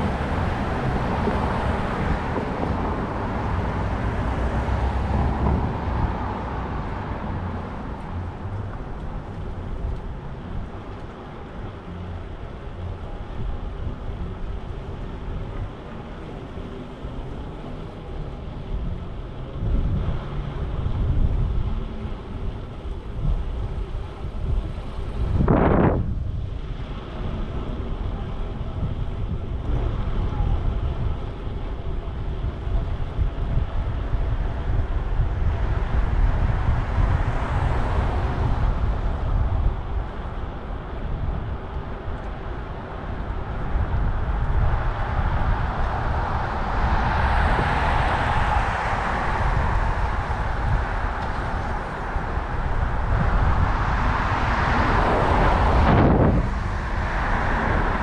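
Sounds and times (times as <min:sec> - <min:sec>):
city traffic passing: 0:00.0 - 0:58.0
wind buffeting microphone: 0:00.0 - 0:58.0.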